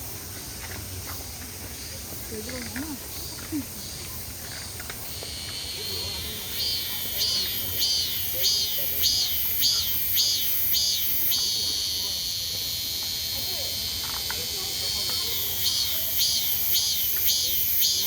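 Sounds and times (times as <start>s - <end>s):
cicada buzzing: 0.0s - 18.0s.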